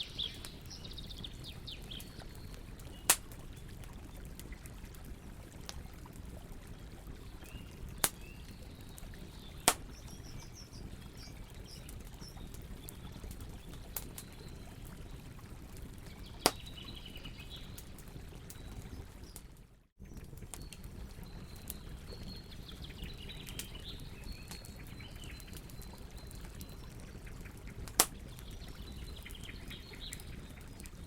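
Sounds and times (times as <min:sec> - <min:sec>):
campfire crackling: 0:00.0 - 0:31.0
fire popping: 0:00.0 - 0:31.0.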